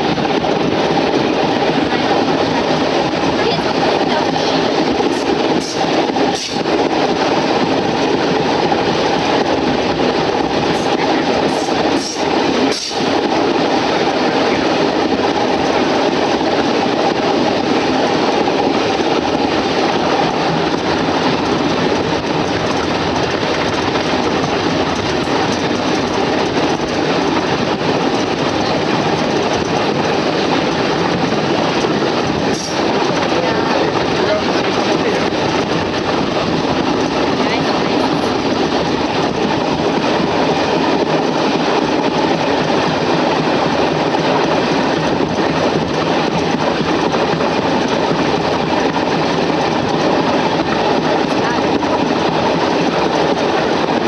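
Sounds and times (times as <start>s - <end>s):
train wheels rumbling on rails: 0.0s - 54.0s
wheels clickety-clack: 0.0s - 54.0s.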